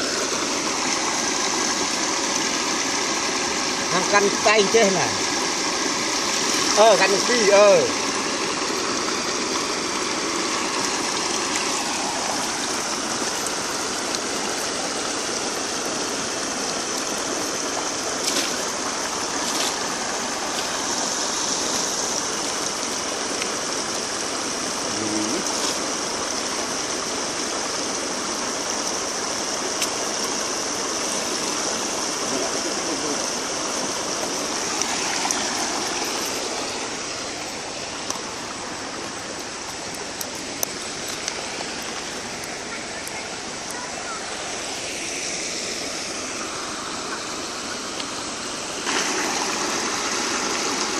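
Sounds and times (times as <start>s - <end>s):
water rushing through weir: 0.0s - 50.9s.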